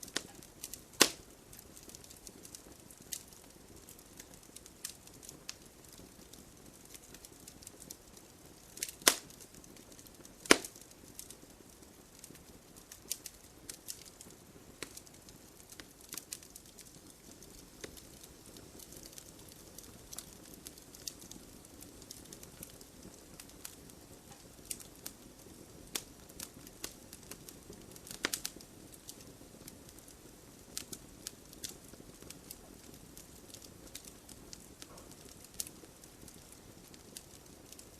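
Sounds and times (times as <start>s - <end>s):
hiss of flames: 0.0s - 37.9s
wood fire crackling and popping: 0.0s - 37.9s.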